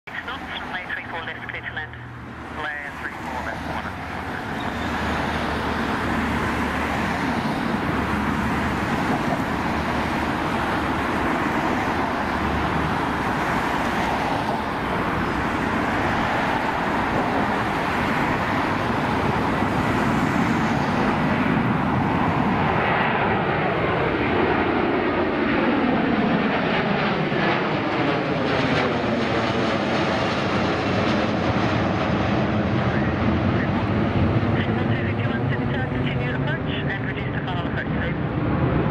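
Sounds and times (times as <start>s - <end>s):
jet engine roar at takeoff: 0.1s - 38.9s.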